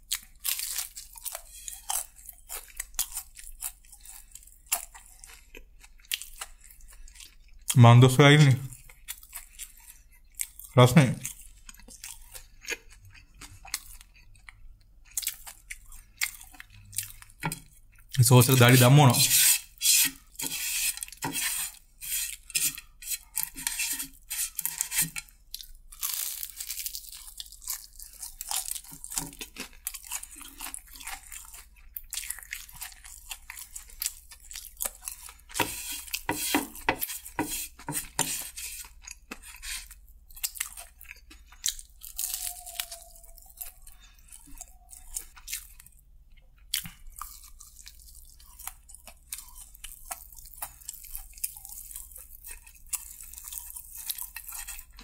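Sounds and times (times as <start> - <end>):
crunchy chewing: 0.0 - 7.8, 8.7 - 55.0
wet chewing: 0.0 - 7.8, 8.7 - 55.0.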